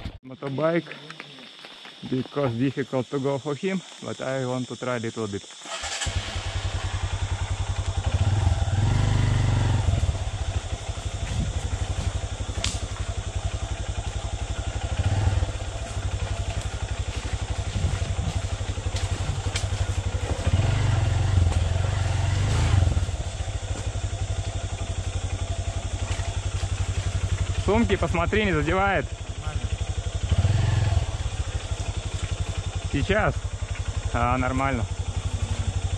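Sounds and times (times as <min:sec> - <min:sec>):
dirt bike engine revving: 0:05.6 - 0:35.9.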